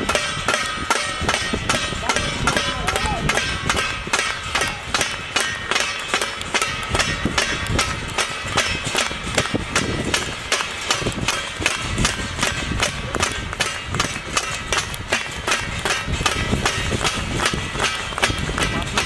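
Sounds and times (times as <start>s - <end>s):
metallic ringing: 0.0s - 19.0s
rhythmic metallic banging: 0.0s - 19.0s.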